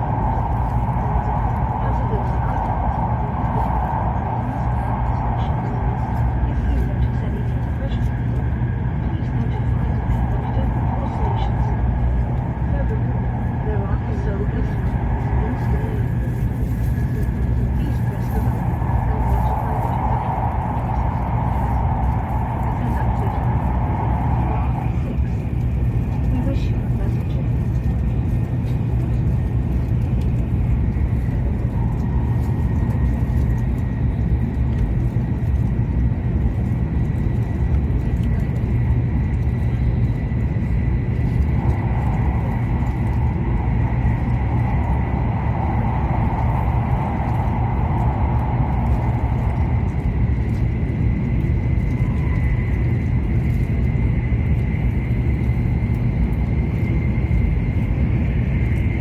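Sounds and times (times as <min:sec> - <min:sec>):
faint steady whine: 0:00.0 - 0:59.0
train cabin low rumble: 0:00.0 - 0:59.0.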